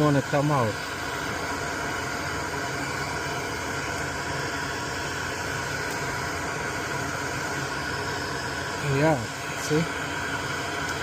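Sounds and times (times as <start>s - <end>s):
fan hissing and humming: 0.0s - 11.0s.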